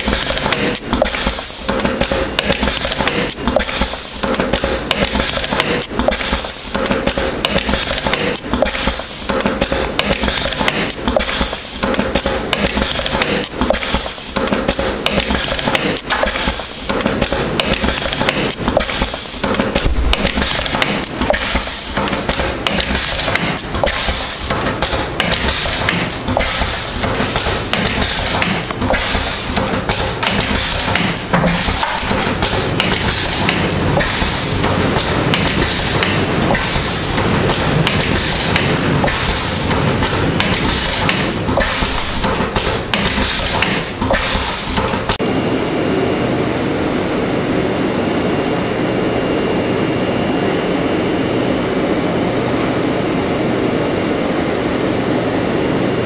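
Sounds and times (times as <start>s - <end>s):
machine clattering metallic clicks: 0.0s - 45.2s
steady machine hum: 0.0s - 56.0s.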